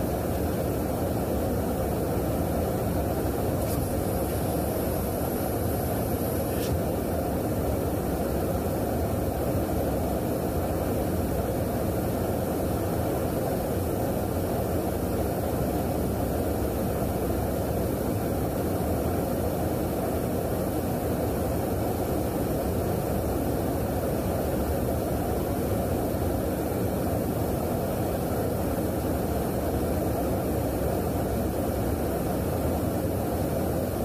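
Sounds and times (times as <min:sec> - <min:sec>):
jet engines and air noise: 0:00.0 - 0:34.0.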